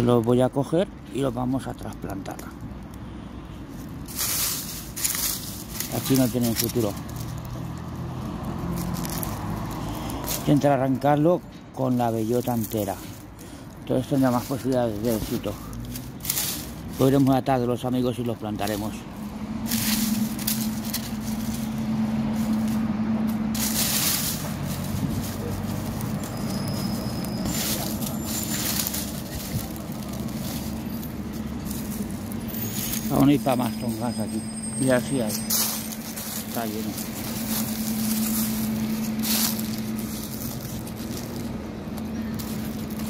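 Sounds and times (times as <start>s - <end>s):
dry leaves rustling and crackling: 0.0s - 43.0s.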